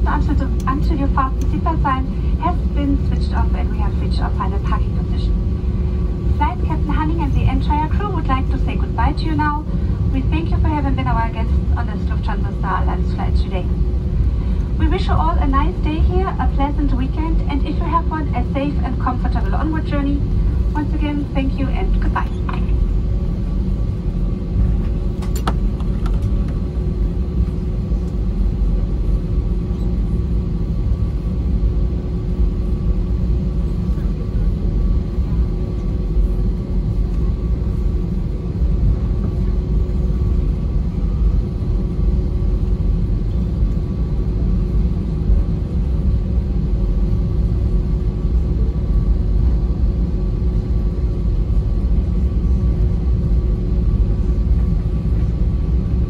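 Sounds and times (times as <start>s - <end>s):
aircraft cabin rumble while taxiing: 0.0s - 56.0s.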